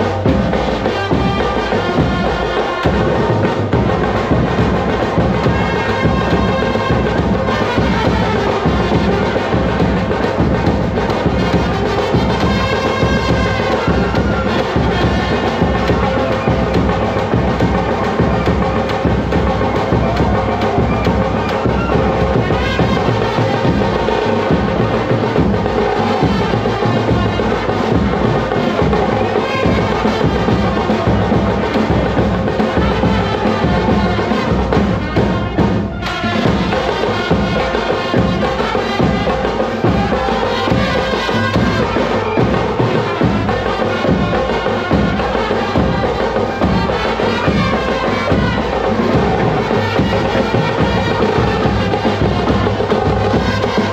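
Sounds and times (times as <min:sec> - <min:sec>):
snare drums: 0:00.0 - 0:53.9
trumpets and saxophones playing: 0:00.0 - 0:53.9.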